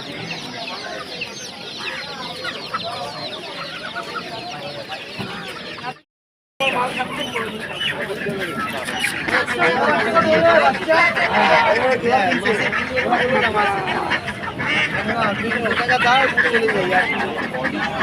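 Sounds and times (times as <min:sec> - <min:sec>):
caged birds chirping: 0:00.0 - 0:06.0, 0:06.6 - 0:18.0.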